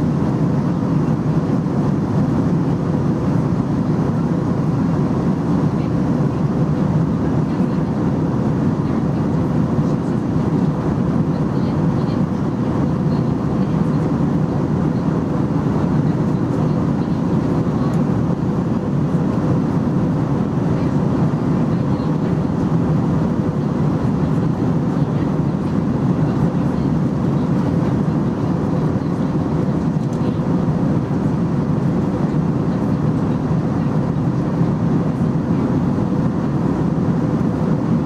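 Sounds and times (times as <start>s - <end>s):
airplane cabin drone: 0.0s - 38.0s.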